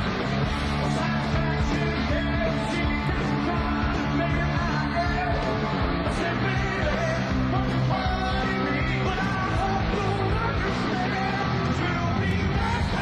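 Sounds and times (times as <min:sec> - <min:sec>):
live rock band with singer: 0:00.0 - 0:13.0.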